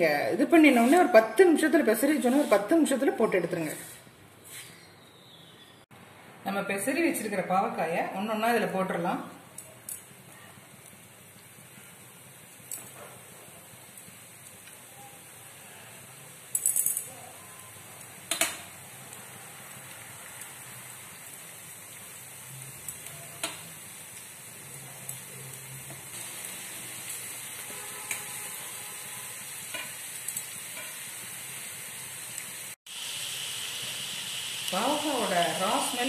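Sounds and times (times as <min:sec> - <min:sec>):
batter deep-frying in oil: 0:06.8 - 0:36.0.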